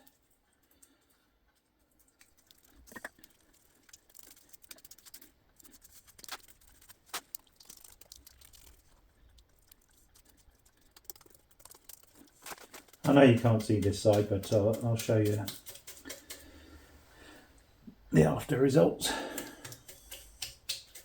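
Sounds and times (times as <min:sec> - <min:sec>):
sticky paste clicks and crackles: 0:00.0 - 0:16.8, 0:19.1 - 0:21.0.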